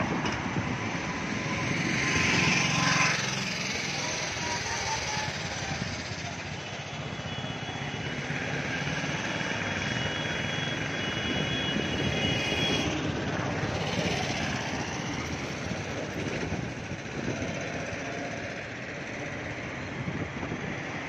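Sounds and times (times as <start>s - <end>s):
cars driving through underpass: 0.0s - 7.2s, 7.8s - 21.0s.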